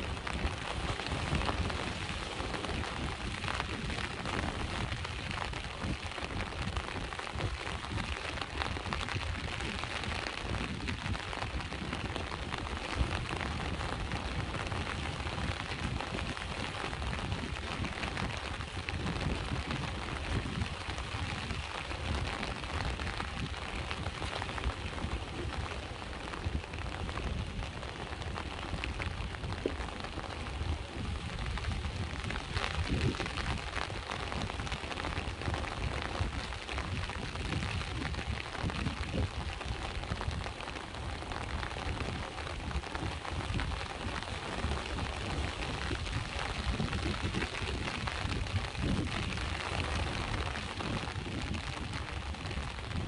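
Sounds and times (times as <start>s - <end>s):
rain falling: 0.0s - 53.0s
sea waves rumbling: 0.0s - 53.0s.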